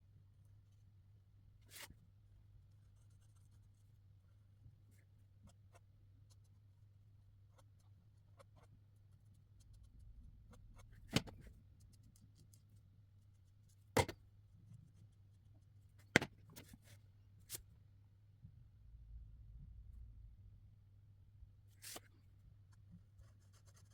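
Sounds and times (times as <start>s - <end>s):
steady low hum: 0.0s - 16.0s, 17.3s - 23.5s.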